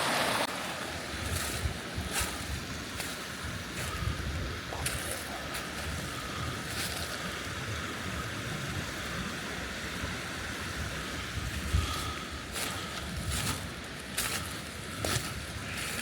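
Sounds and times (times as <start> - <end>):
creek rushing: 0.0 - 16.0
wind rumbling on microphone: 0.1 - 16.0.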